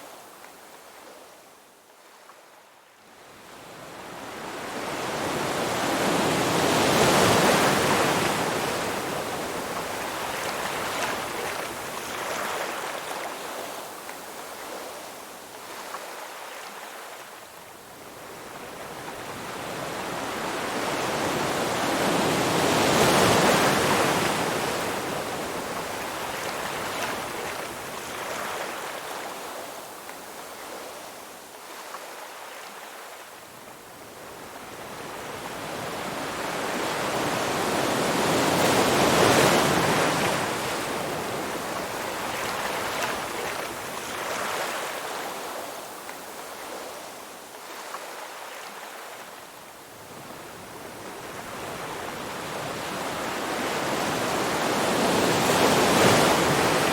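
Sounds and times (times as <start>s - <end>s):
ocean waves breaking on shore: 3.2s - 56.9s.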